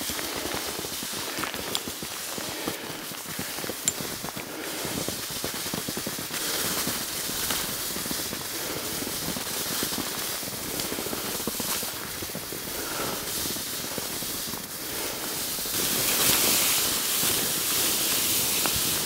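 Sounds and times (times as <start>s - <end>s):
skis scraping on snow: 0.0s - 19.0s.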